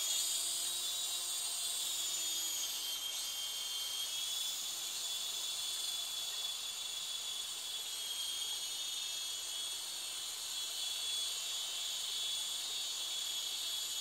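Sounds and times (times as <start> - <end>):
toy helicopter rotor whine: 0.0 - 14.0.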